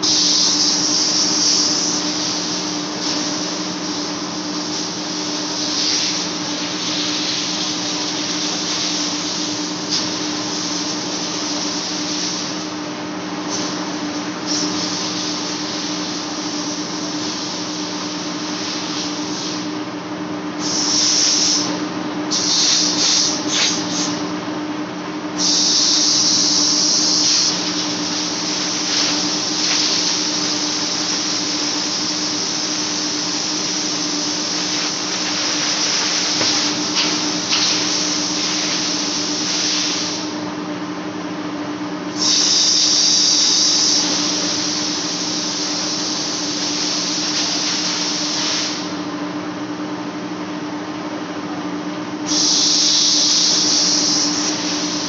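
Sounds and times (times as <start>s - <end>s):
lathe drive hum: 0.0s - 55.0s.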